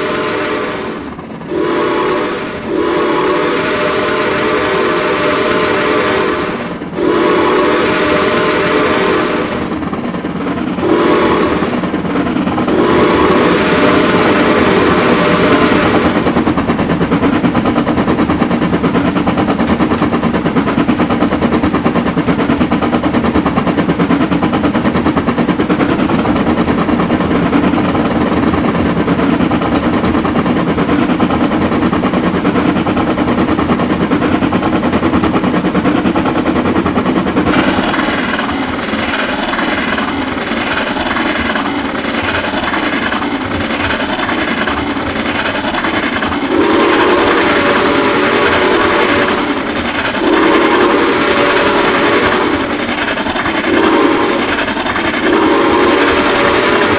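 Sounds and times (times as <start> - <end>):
steam locomotives chuffing: 0.0 - 56.9
train rattling: 0.0 - 56.9.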